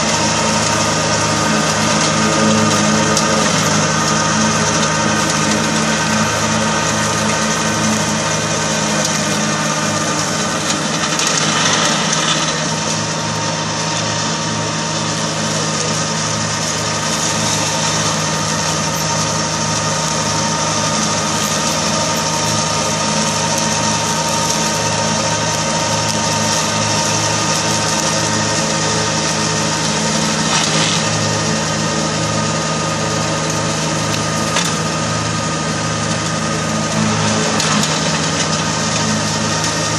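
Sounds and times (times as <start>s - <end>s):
mower blades whirring: 0.0s - 39.9s
tractor diesel engine running: 0.0s - 39.9s.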